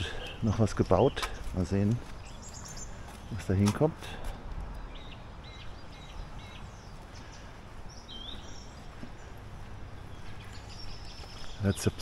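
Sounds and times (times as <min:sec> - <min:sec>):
small bird chirping: 0:00.0 - 0:03.6, 0:04.8 - 0:12.0
background rush of noise: 0:00.0 - 0:12.0.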